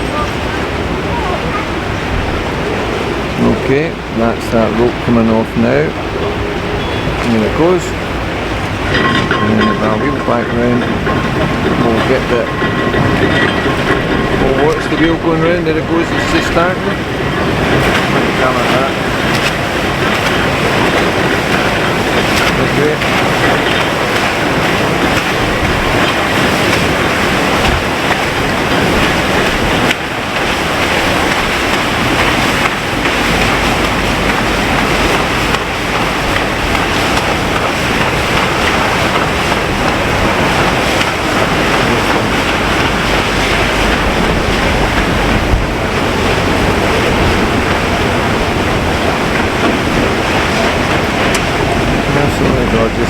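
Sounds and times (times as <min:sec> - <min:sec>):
paddle wheels churning water: 0:00.0 - 0:53.0
wind buffeting microphone: 0:00.0 - 0:53.0.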